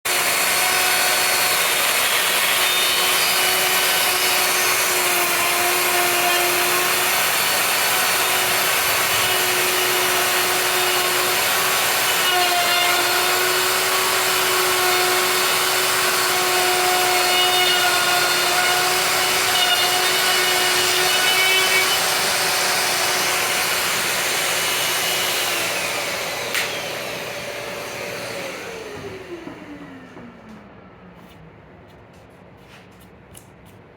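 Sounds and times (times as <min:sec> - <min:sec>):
router cutting wood: 0:00.1 - 0:30.7.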